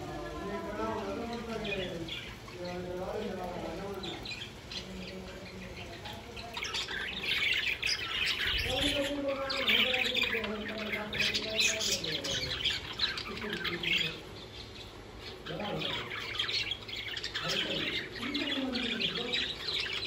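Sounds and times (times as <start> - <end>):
low drawn-out bird calls: 0.0 - 20.0
budgerigars chirping: 0.1 - 20.0.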